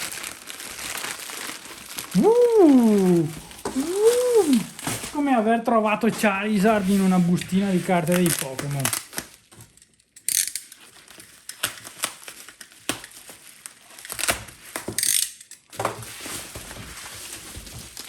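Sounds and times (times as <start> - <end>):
packaging being unwrapped: 0.0 - 18.0.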